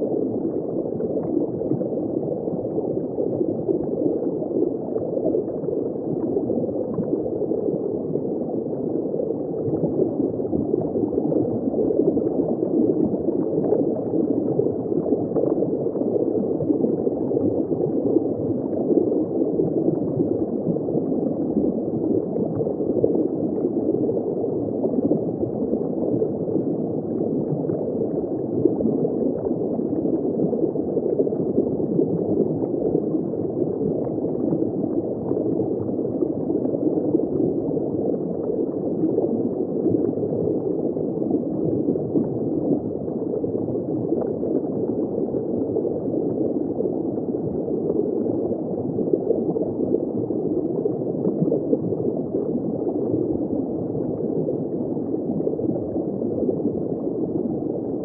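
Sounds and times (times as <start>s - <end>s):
underwater bubbling and gurgling: 0.0s - 58.0s.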